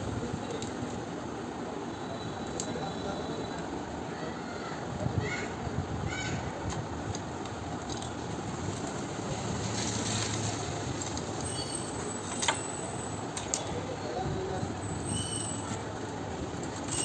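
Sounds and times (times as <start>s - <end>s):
traffic-like background noise: 0.0s - 17.0s.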